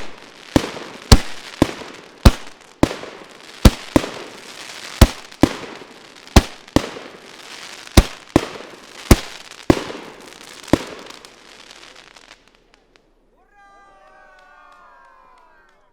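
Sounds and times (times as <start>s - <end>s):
fireworks crackle: 0.0s - 13.4s
fireworks bangs: 0.0s - 15.8s.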